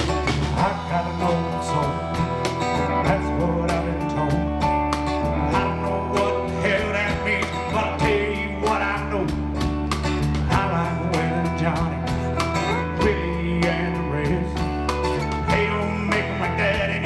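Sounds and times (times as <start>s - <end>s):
bass: 0.0s - 17.0s
guitar with bending notes: 0.0s - 17.0s
steady drum beat: 0.0s - 17.0s.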